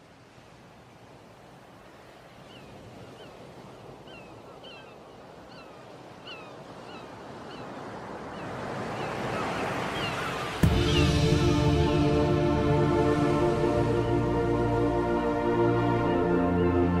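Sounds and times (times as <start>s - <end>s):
surf washing on sandy shore: 0.0s - 15.2s.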